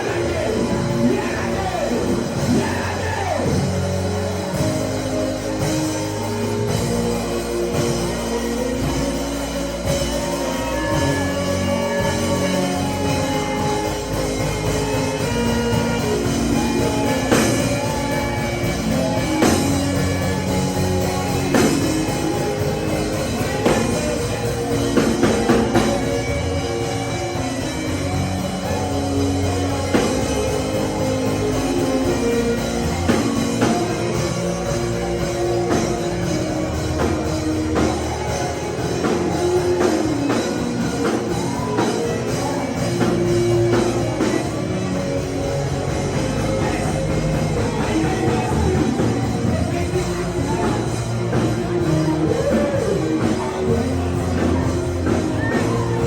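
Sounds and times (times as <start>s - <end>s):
band music with drums: 0.0s - 56.0s.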